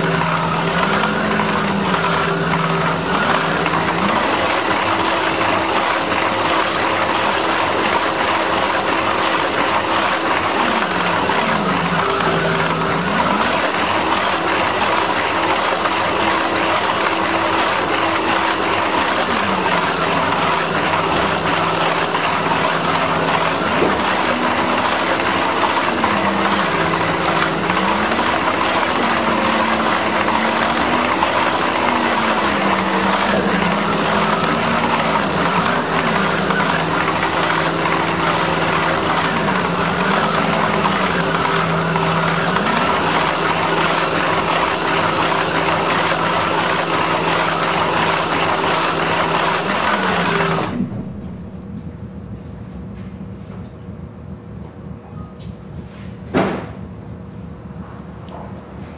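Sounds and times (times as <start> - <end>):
slot car motors whining: 0.0 - 55.0.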